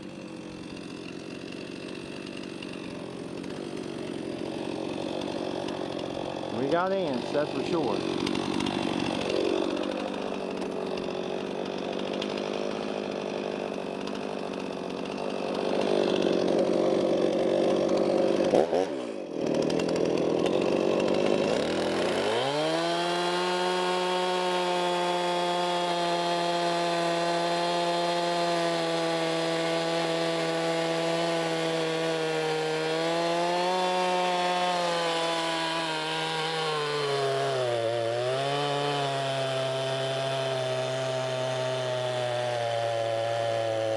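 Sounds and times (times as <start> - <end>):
chainsaw cutting log: 0.0 - 43.9.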